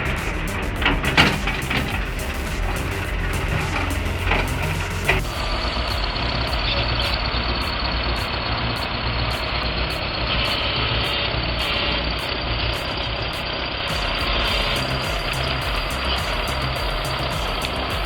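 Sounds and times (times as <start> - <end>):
background music with regular beat: 0.0 - 18.0
heavy diesel engine under load: 0.0 - 18.0.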